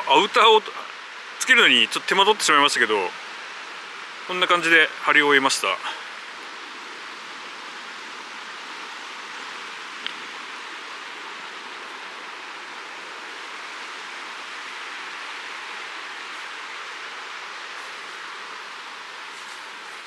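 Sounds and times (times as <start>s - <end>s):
river flowing over stones: 0.0s - 20.0s.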